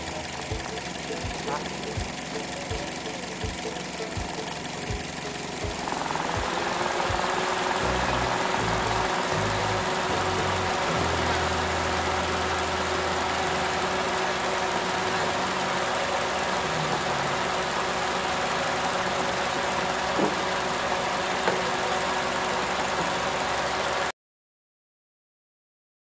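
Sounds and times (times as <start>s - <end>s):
car engine idling: 0.0s - 24.1s.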